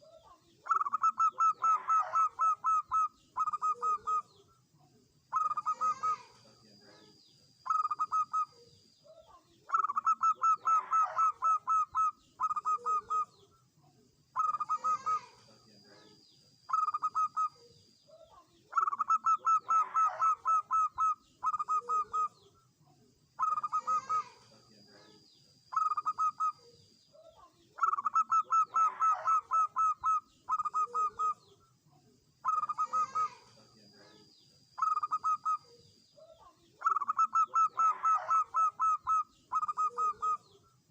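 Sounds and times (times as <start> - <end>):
dove cooing: 0.0 - 4.4, 5.3 - 13.5, 14.4 - 22.5, 23.4 - 31.5, 32.4 - 40.6.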